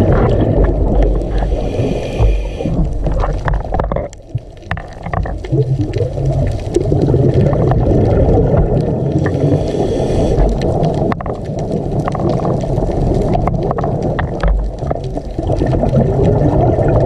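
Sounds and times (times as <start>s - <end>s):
exhaled bubbles gurgling underwater: 0.0s - 17.0s.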